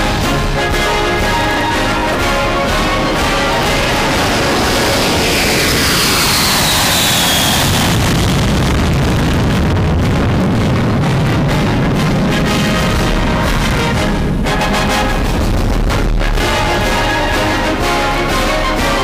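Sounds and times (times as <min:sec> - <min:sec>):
theme music: 0:00.0 - 0:08.4, 0:10.0 - 0:19.0
jet bomber flying over: 0:00.0 - 0:19.0.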